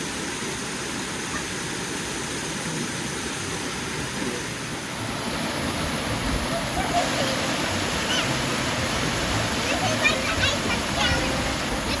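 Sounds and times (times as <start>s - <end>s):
small waterfall pouring: 0.0s - 12.0s.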